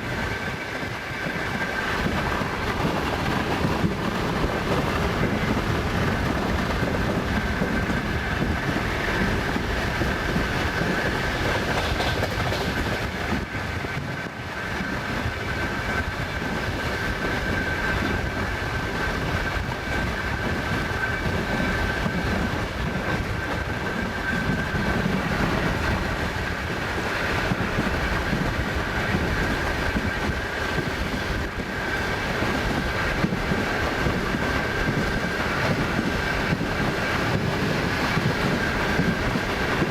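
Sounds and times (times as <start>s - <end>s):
train rumble: 0.0s - 39.9s
train wheels clattering over rail joints: 0.0s - 39.9s.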